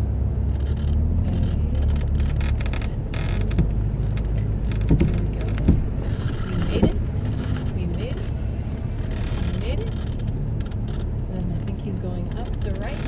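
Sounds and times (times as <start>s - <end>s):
car engine running at low revs: 0.0s - 13.0s
sharp knocks: 1.8s - 13.0s.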